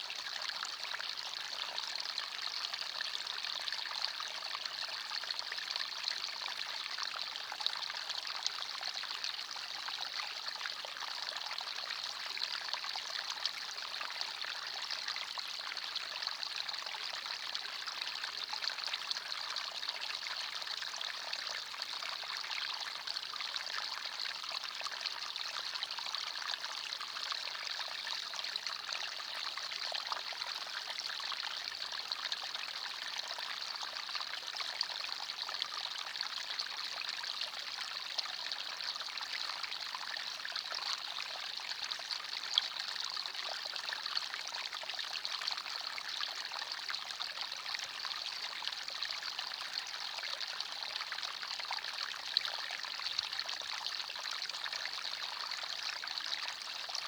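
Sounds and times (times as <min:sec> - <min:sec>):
stream trickling over stones: 0:00.3 - 0:57.0.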